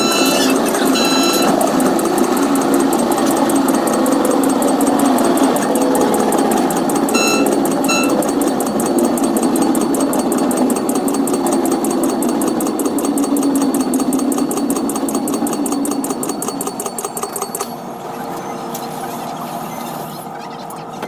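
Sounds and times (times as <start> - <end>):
rapid clicks: 0.0 - 17.7
train mechanical hum: 0.0 - 21.0.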